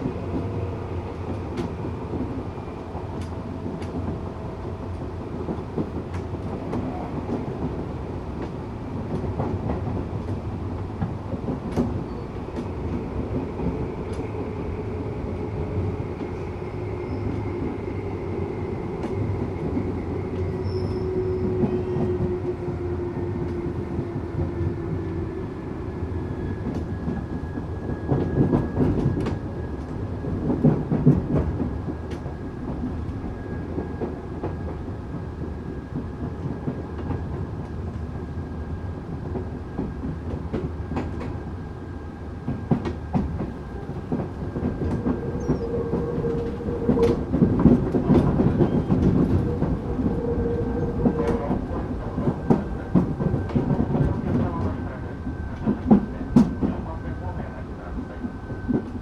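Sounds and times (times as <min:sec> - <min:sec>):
train clatter: 0:00.0 - 0:17.8, 0:26.5 - 0:38.2, 0:39.0 - 0:41.5, 0:42.3 - 0:59.0
rail joint clicks: 0:00.0 - 0:25.2, 0:26.6 - 0:34.8, 0:39.2 - 0:41.6, 0:42.3 - 0:59.0
train wheels rumbling on rails: 0:00.0 - 0:59.0.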